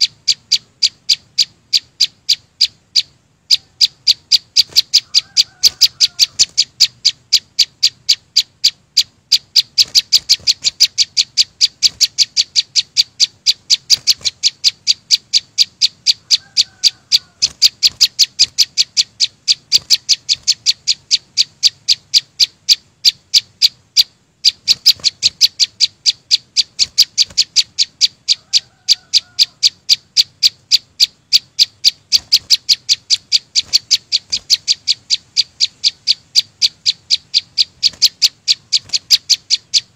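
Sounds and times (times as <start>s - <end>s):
songbird calling sharp high notes: 0.0s - 39.9s.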